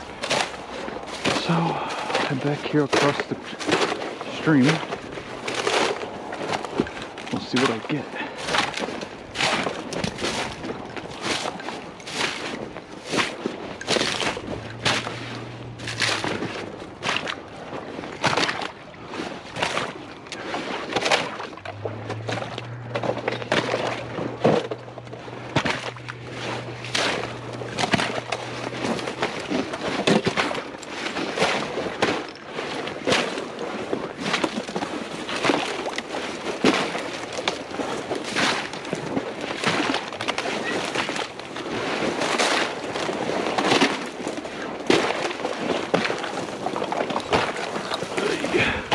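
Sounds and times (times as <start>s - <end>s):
footsteps sloshing through water: 0.0s - 48.9s.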